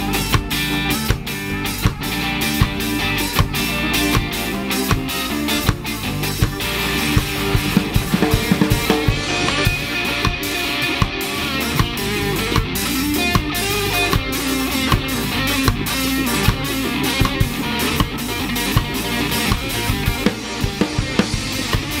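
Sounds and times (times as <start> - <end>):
ska band playing: 0.0 - 22.0.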